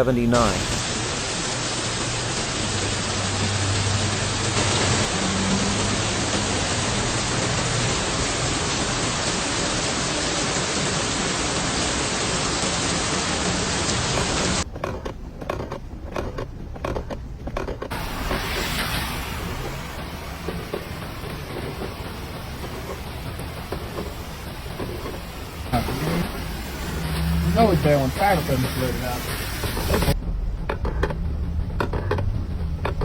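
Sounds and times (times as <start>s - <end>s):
heavy rain hiss: 0.0s - 14.6s, 17.9s - 30.2s.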